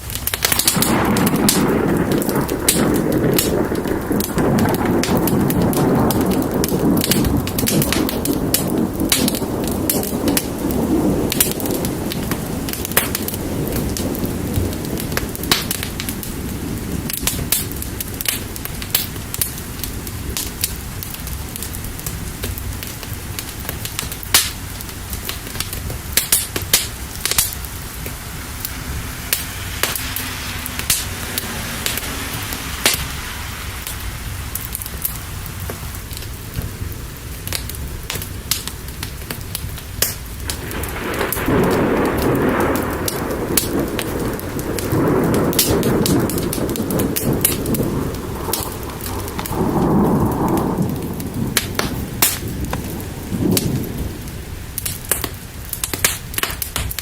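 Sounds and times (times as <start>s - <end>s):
low rumble of thunder: 0.0s - 57.0s
steady rain: 0.0s - 57.0s
wood fire crackling and popping: 0.0s - 57.0s.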